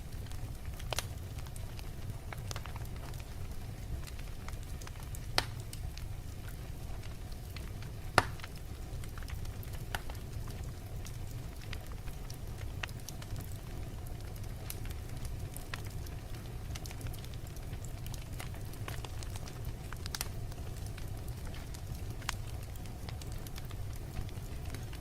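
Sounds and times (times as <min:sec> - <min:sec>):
fire crackling and popping: 0:00.0 - 0:25.0
flames rumbling: 0:00.0 - 0:25.0.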